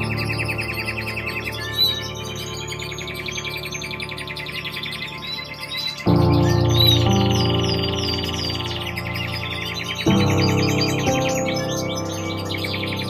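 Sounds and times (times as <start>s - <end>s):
background music of held notes: 0.0s - 13.0s
songbirds chirping: 0.0s - 13.0s.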